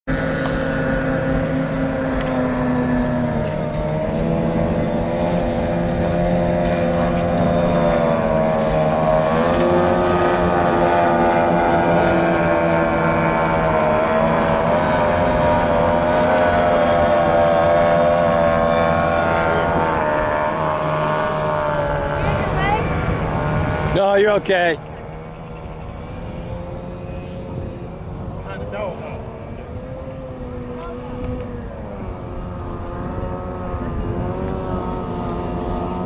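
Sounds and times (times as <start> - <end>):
outboard engines whining: 0.0 - 36.0.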